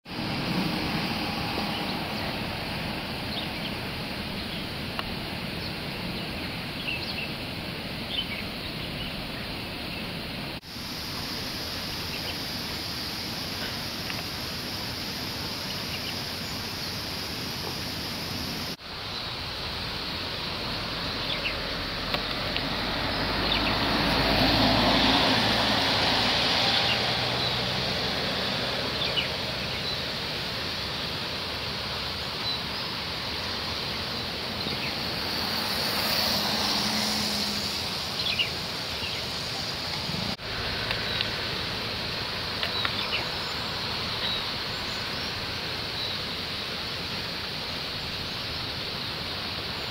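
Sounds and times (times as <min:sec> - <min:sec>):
outdoor background hiss: 0:00.0 - 0:49.9.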